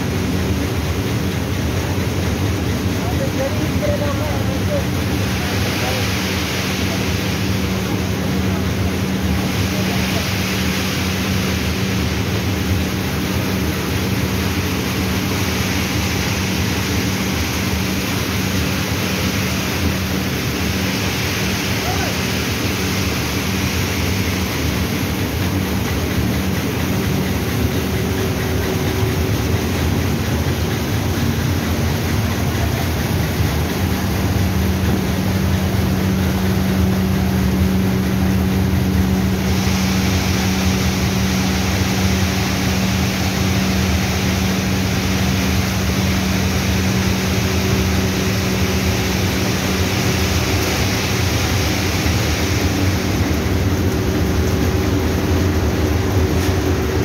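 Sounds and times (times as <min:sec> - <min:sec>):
conveyor machinery droning: 0:00.0 - 0:57.0.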